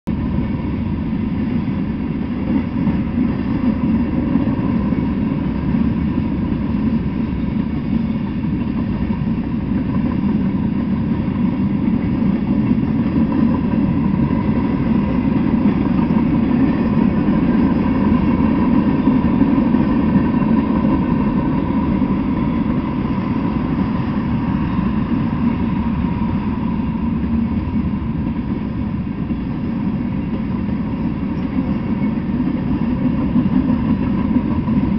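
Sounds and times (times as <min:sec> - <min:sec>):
steel wheels rumbling on rail: 0:00.0 - 0:34.9.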